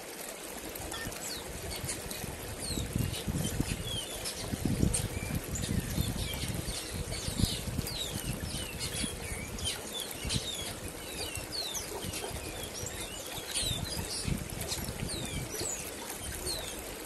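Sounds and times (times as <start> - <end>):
songbirds chirping: 1.0 - 17.0.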